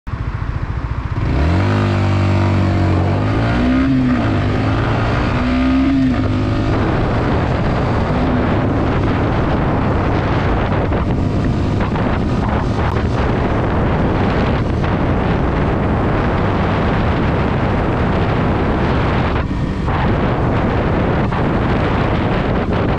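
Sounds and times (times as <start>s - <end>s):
motorcycle engine accelerating: 0.1s - 22.9s
wind noise on microphone: 0.1s - 22.9s.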